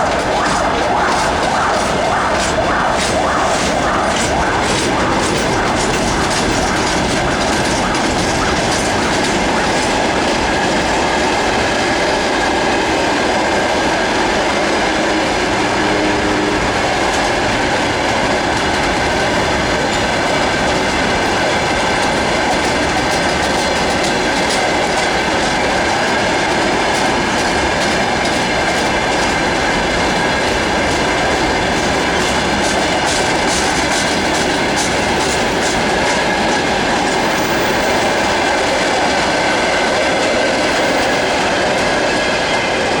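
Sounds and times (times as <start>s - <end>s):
freight train wheels rumbling: 0.0s - 43.0s
wheels clicking over rail joints: 0.0s - 43.0s.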